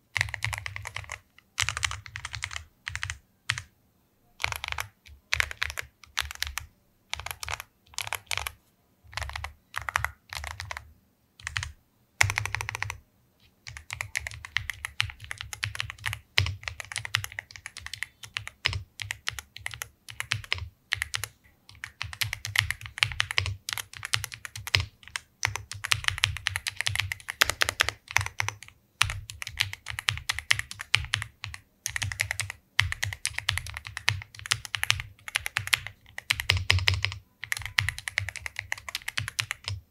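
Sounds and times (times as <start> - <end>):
mechanical keyboard typing: 0.2 - 3.7, 4.4 - 39.9.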